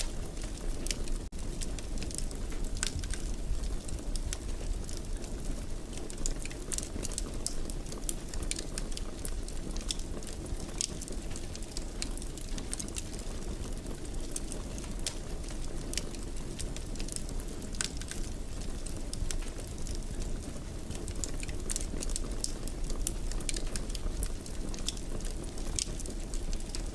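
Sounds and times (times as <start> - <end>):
fire crackles and pops: 0.0 - 26.9.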